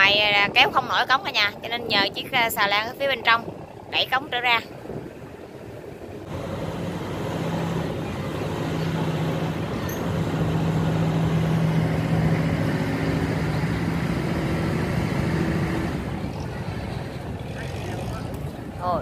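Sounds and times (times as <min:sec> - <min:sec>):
diesel engine droning: 0:03.5 - 0:19.0.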